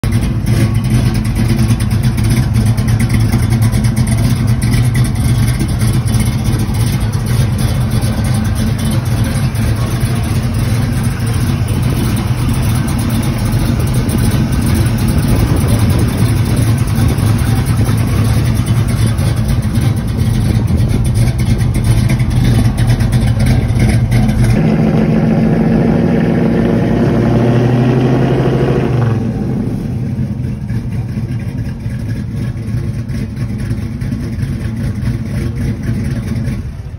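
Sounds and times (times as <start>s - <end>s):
car engine idling choppy: 0.0s - 36.9s.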